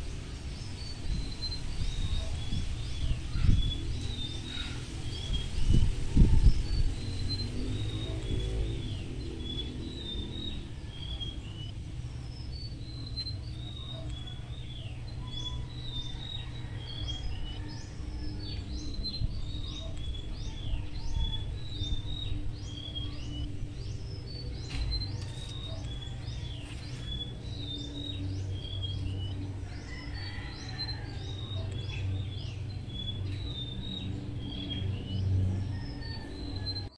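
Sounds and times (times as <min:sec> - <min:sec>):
small birds chirping: 0:00.0 - 0:36.9
steady low rumble: 0:00.0 - 0:36.9.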